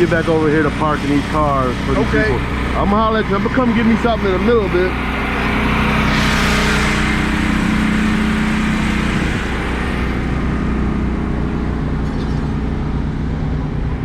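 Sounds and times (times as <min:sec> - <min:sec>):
car engine humming: 0:00.0 - 0:14.0.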